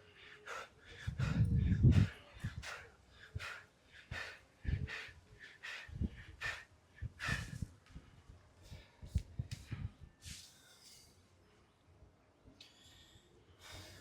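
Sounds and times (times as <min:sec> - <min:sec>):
person breathing hard: 0:00.0 - 0:10.0, 0:12.6 - 0:14.0.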